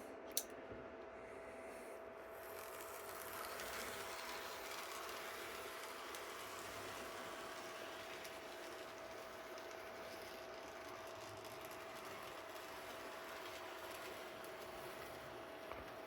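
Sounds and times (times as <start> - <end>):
model train whine and hiss: 1.7 - 16.0.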